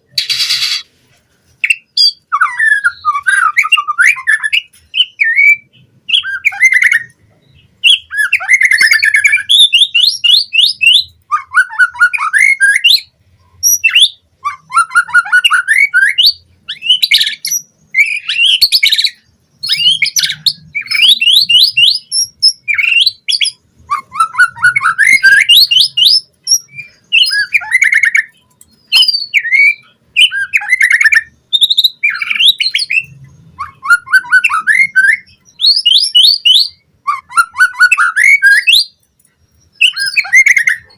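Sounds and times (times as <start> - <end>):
songbird trills and whistles: 0.0 - 0.9, 1.6 - 40.9.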